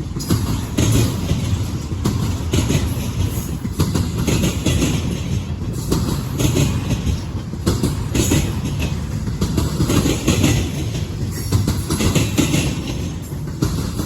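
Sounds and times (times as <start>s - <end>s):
freight train rumble: 0.0s - 14.0s
steel wheels clattering over rail joints: 0.0s - 14.0s.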